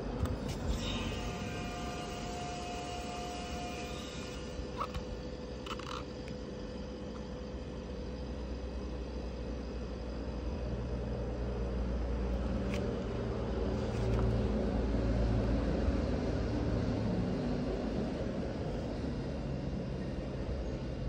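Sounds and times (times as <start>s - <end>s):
fridge compressor humming: 0.0s - 21.0s.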